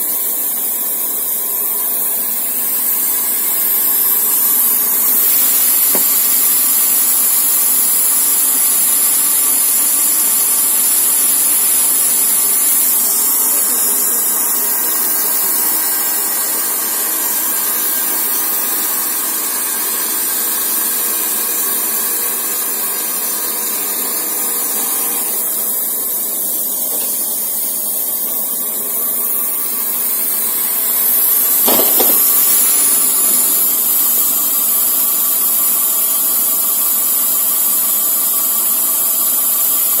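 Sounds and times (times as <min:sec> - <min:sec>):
band saw cutting a log: 0:00.0 - 0:40.0.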